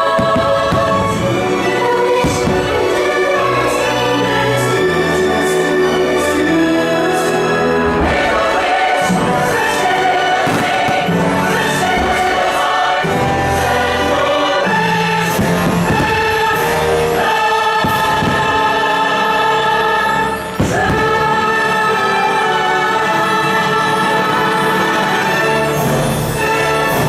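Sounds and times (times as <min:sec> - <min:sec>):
choir singing held chords: 0:00.0 - 0:27.0
orchestra playing: 0:00.0 - 0:27.0.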